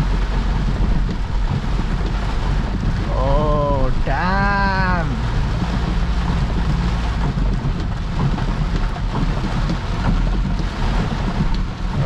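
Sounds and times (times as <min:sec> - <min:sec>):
heavy rain on car roof: 0:00.0 - 0:12.0
tyres rumbling on wet road: 0:00.0 - 0:12.0.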